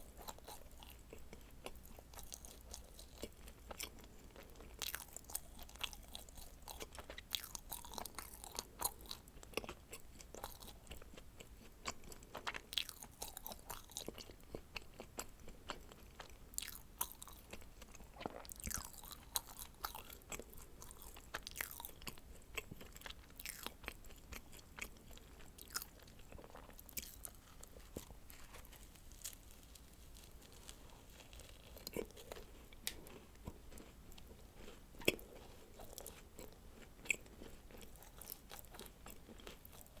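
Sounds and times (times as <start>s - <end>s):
chewing crunchy food: 0.0s - 40.0s.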